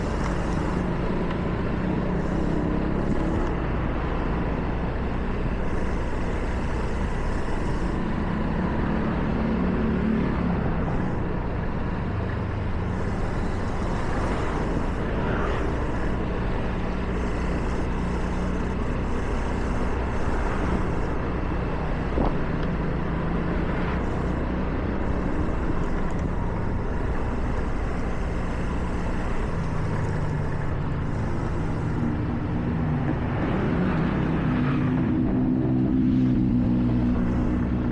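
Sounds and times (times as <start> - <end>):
tyres hissing on wet road: 0.0 - 4.1, 5.3 - 32.6
car engine hum: 0.0 - 37.9.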